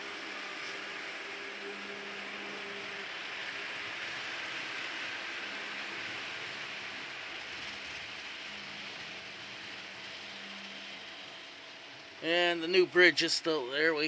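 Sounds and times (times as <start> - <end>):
faint motor hum: 0.0 - 14.0
model train wheels on track: 0.0 - 14.0.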